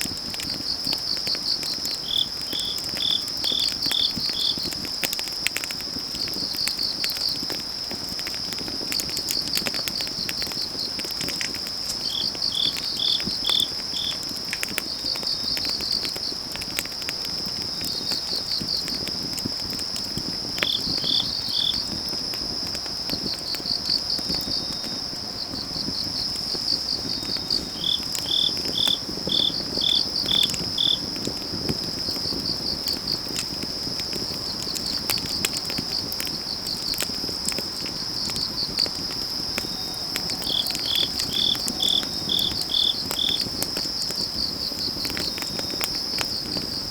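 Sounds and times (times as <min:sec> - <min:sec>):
crickets trilling: 0:00.0 - 0:46.9
fire crackling and popping: 0:00.0 - 0:46.9
insects chirping: 0:00.0 - 0:46.9.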